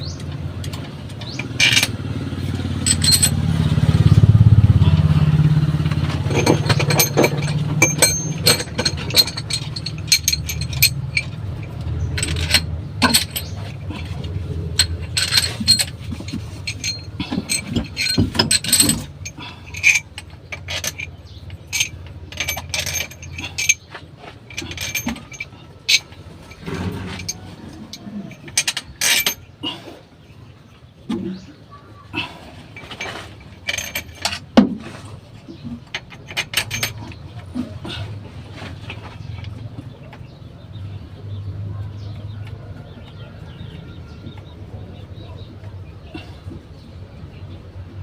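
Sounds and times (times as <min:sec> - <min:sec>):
metal tools clinking on engine parts: 0:00.0 - 0:48.0.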